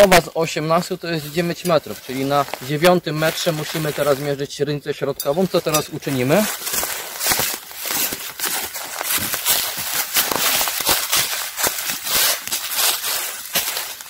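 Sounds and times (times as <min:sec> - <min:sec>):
footsteps on dry leaves and twigs: 0:00.0 - 0:14.0.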